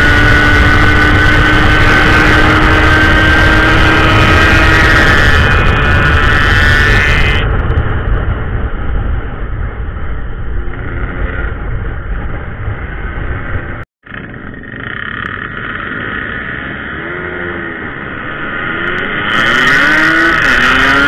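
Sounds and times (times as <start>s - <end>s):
low wind rumble: 0.0s - 21.0s
motorcycle engine running: 0.0s - 21.0s.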